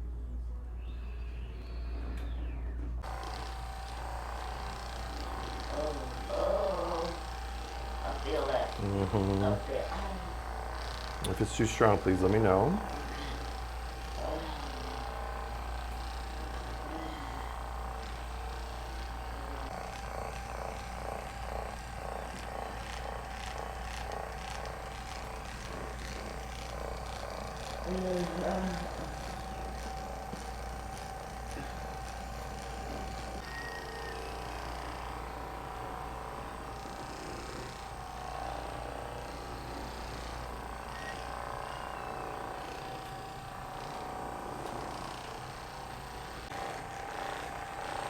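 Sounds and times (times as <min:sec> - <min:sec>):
electric massager buzzing: 0:01.4 - 0:48.0
small electric motor humming: 0:03.0 - 0:48.0.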